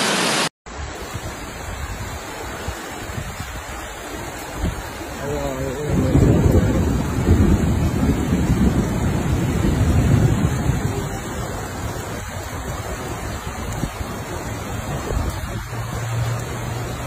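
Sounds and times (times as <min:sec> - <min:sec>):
floodwater rushing: 0:00.0 - 0:17.0
wind buffeting microphone: 0:01.0 - 0:16.7.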